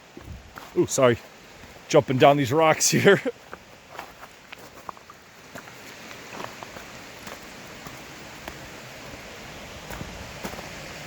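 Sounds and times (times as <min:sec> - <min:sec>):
rushing water from waterfall: 0:00.0 - 0:11.0.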